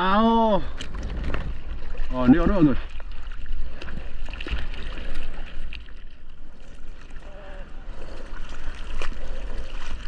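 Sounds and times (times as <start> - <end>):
sea water sloshing and splashing: 0.0 - 10.0.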